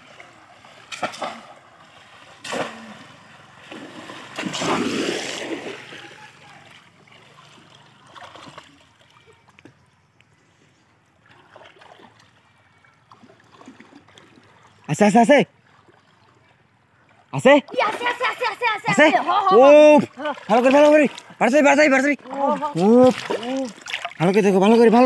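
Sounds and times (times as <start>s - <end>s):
splashing in shallow water: 0.0s - 10.1s, 11.2s - 14.9s, 15.5s - 25.0s.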